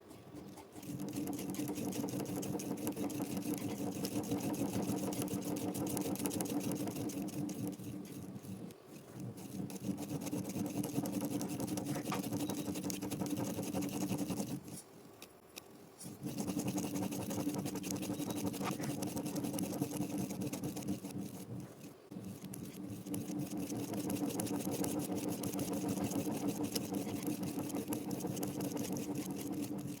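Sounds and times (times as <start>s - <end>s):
pen scratching on paper: 0.0s - 15.0s, 16.0s - 30.0s.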